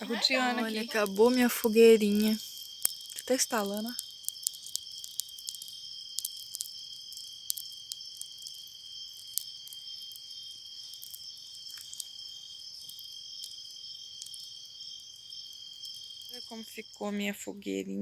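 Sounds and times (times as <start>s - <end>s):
embers crackling: 0.0s - 17.2s
crickets trilling: 0.0s - 18.0s.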